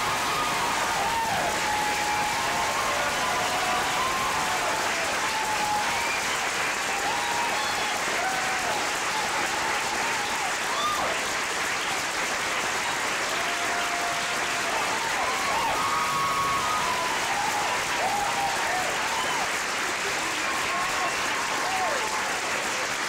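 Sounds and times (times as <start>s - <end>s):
audience applauding: 0.0s - 23.0s
people cheering: 0.0s - 23.0s.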